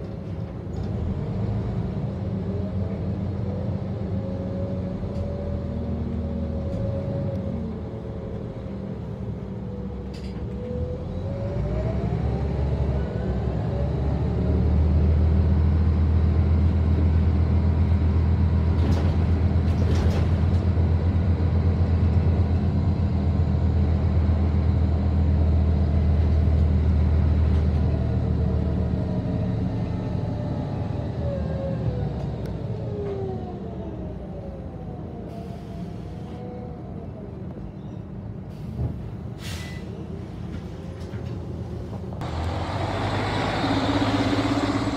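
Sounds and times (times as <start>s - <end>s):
bus engine drone and whine: 0.0s - 44.9s.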